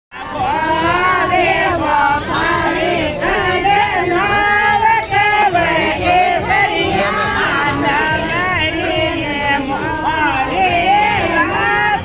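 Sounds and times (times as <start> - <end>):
group singing folk song: 0.2 - 12.0.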